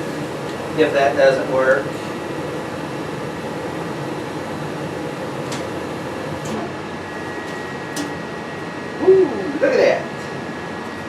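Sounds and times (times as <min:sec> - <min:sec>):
gas furnace running: 0:00.0 - 0:11.0.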